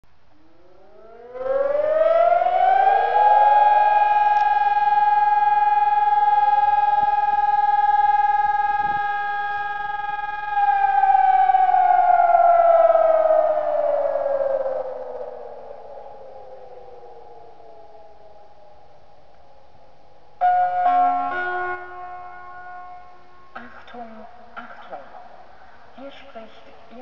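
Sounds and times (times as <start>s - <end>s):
electronic siren: 0.3s - 19.2s, 20.4s - 23.6s
second siren nearby: 0.3s - 24.6s.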